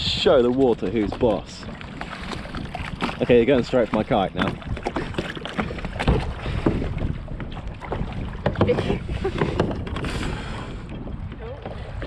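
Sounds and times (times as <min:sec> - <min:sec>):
paddles splashing: 0:00.0 - 0:12.0
water slapping a hull: 0:00.0 - 0:12.0
wind buffeting microphone: 0:00.0 - 0:12.0.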